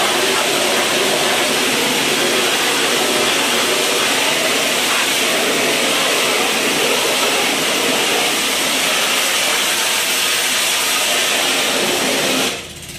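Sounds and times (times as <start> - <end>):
water jet spraying metal grate: 0.0 - 12.7.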